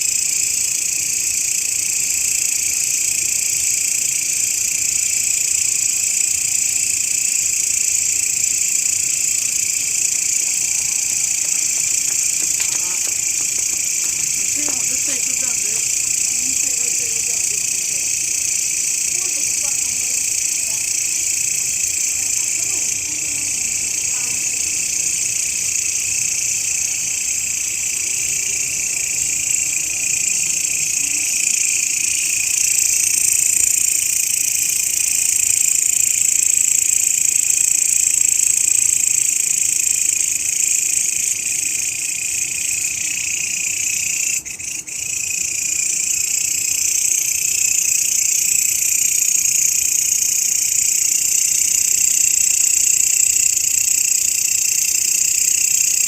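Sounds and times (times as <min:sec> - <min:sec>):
grasshopper trilling: 0:00.0 - 0:56.0.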